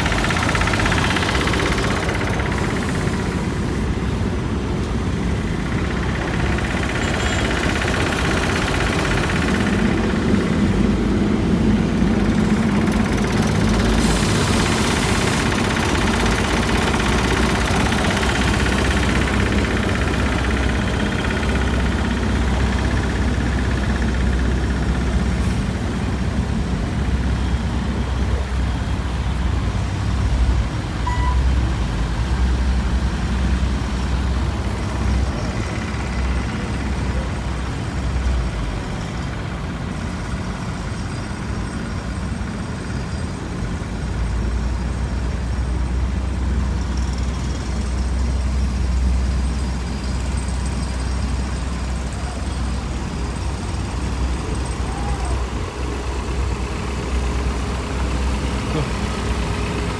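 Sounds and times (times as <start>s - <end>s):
heavy diesel engines rumbling: 0.0s - 59.9s.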